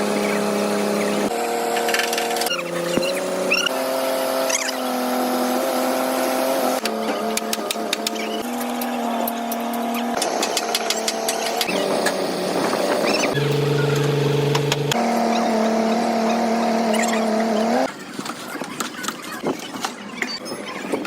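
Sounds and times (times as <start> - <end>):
vehicle engine humming: 0.0 - 17.9.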